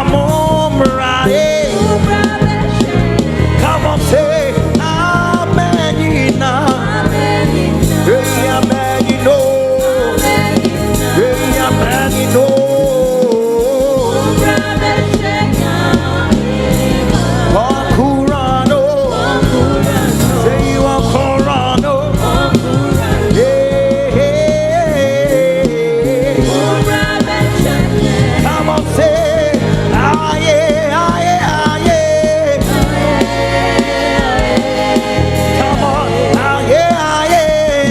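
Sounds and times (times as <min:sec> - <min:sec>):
instrumental accompaniment: 0:00.0 - 0:37.9
voices singing together: 0:00.0 - 0:37.9.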